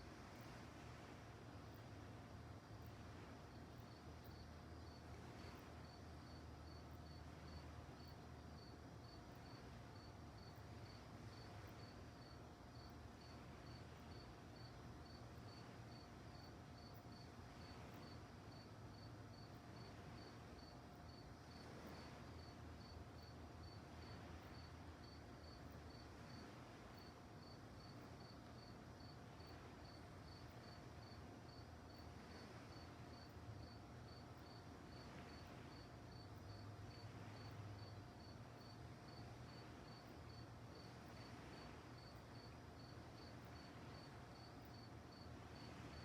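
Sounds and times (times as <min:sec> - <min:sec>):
crickets chirping: 0:00.0 - 0:46.0
faint steady hum: 0:00.0 - 0:46.0.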